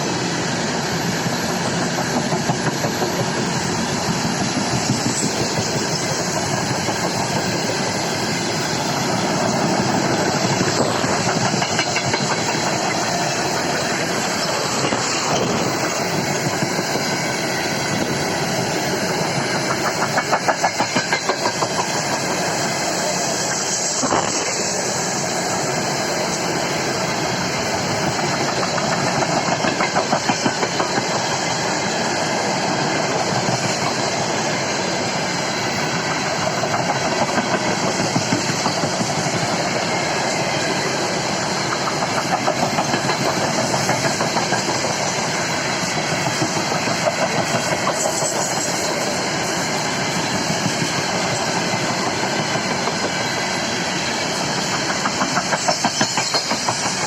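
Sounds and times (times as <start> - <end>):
freight train rumble: 0.0 - 57.0
train wheels clattering: 0.0 - 57.0.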